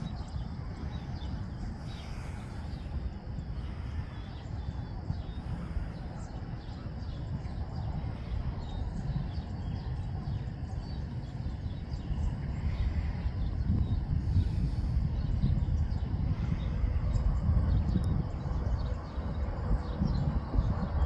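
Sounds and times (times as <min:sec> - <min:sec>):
faint bird chirps: 0:00.0 - 0:21.0
steady low rumble: 0:00.0 - 0:21.0.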